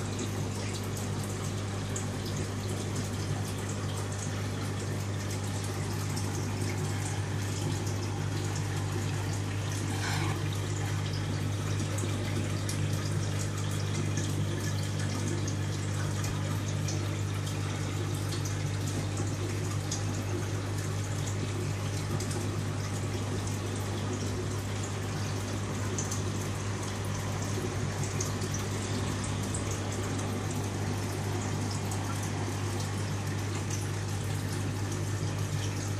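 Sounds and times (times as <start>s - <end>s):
aquarium water bubbling: 0.0s - 35.9s
pump humming: 0.0s - 35.9s.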